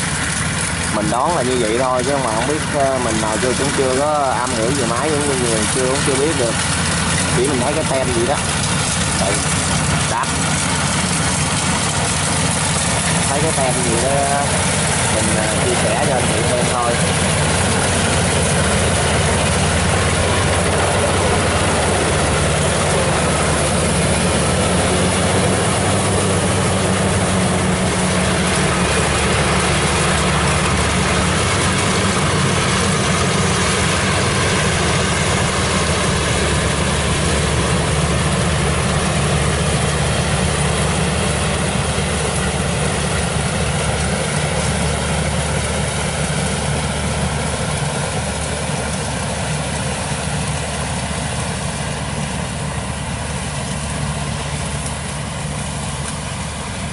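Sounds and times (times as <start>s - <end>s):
combine harvester running: 0.0s - 56.9s.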